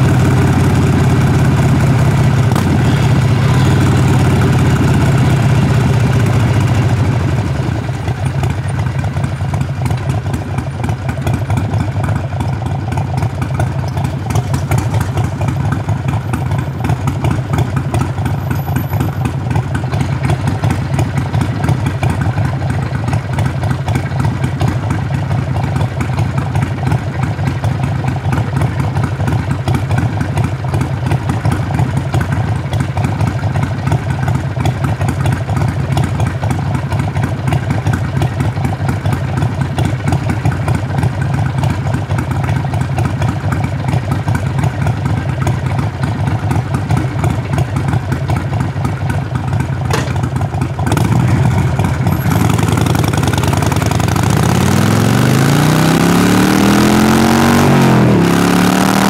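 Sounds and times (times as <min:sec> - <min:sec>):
motorcycle engine exhaust: 0:00.0 - 0:59.0.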